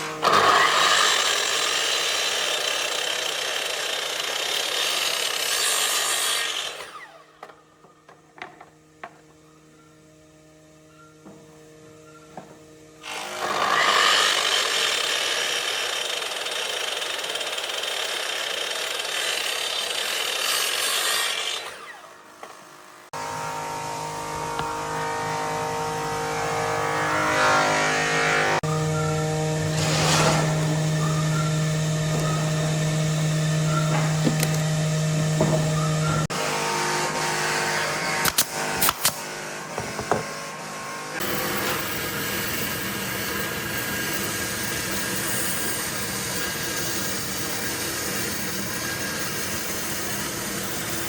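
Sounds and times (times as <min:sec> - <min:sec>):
power tool cutting wood: 0:00.0 - 0:09.4, 0:11.2 - 0:51.0.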